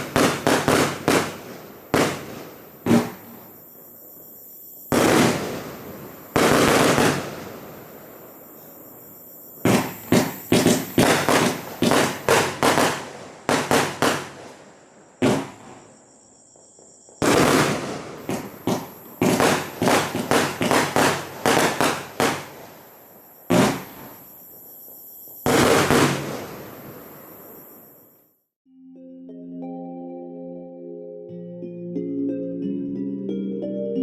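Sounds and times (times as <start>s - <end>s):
firework crackling fizz: 0.0s - 16.0s, 16.6s - 28.3s
firework bangs: 0.0s - 28.2s.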